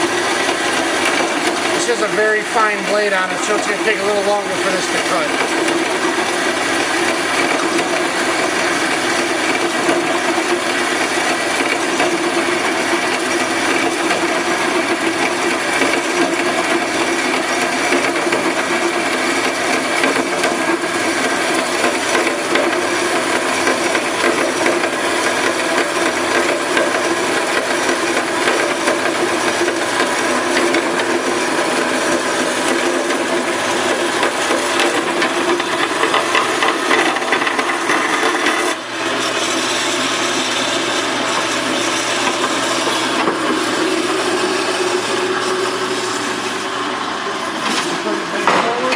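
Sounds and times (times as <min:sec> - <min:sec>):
bandsaw cutting: 0:00.0 - 0:48.9.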